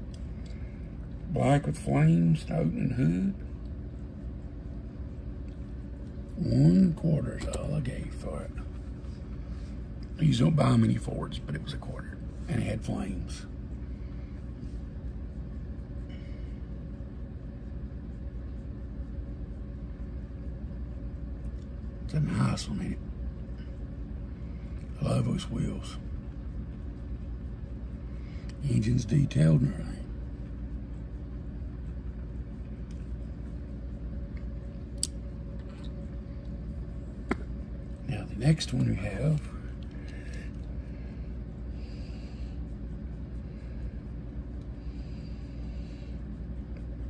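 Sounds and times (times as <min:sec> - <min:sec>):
furnace humming: 0:00.0 - 0:47.0.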